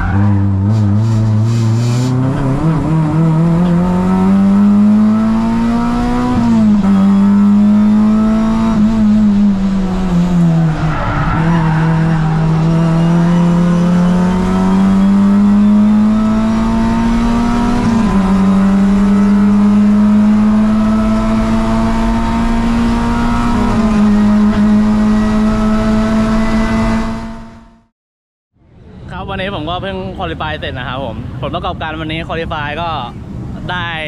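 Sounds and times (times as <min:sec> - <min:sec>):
race car engine under load: 0:00.0 - 0:27.8.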